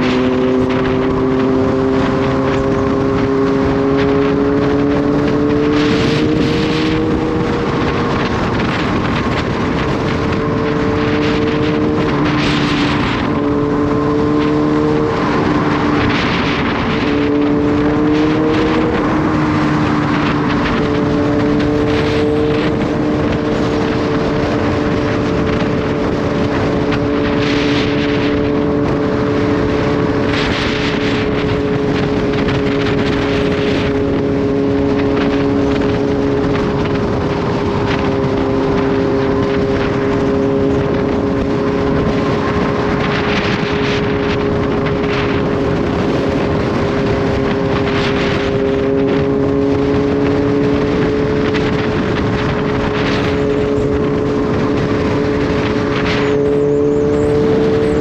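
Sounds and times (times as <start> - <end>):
motorcycle engine cruising: 0.0 - 58.0
wind and road roar: 0.0 - 58.0
wind gusts on microphone: 0.0 - 58.0.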